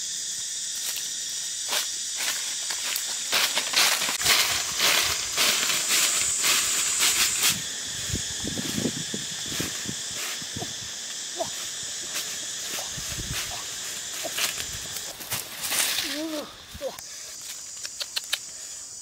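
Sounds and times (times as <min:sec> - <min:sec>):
high-pitched insect drone: 0:00.0 - 0:19.0
footsteps crunching dry leaves: 0:00.8 - 0:17.7.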